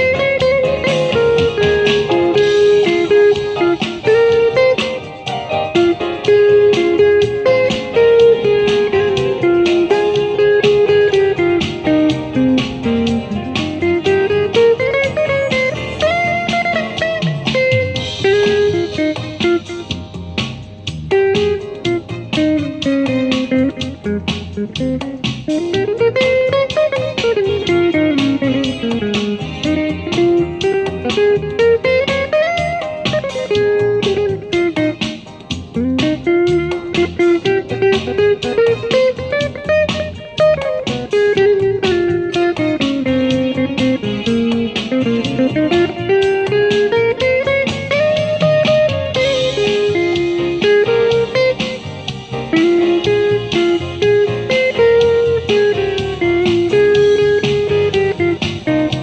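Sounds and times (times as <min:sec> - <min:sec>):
electric guitar jazz melody: 0:00.0 - 0:59.0.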